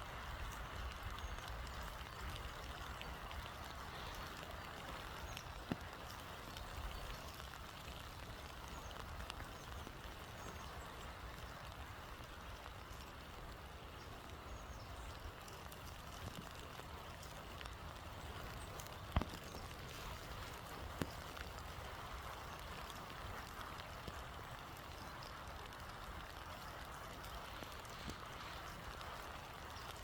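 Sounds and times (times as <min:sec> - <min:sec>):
raindrops ticking: 0:00.0 - 0:30.0
steady rain: 0:00.0 - 0:30.0.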